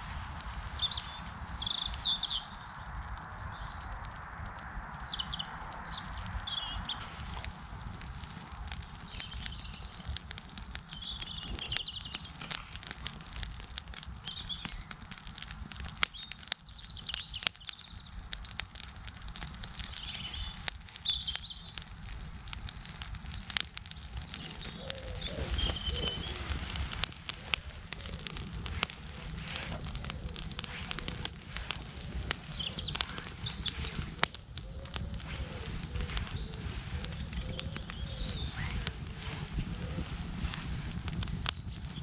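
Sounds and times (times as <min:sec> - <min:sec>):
fire crackling and popping: 0:00.0 - 0:42.0
small birds chirping: 0:00.0 - 0:42.0.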